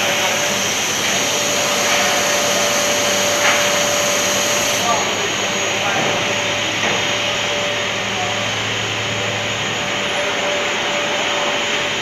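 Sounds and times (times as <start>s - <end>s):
mechanical hum of motors and fans: 0.0s - 12.0s.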